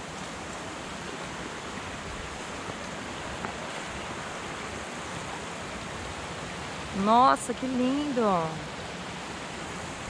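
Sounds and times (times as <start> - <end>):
river rushing over rocks: 0.0 - 10.0.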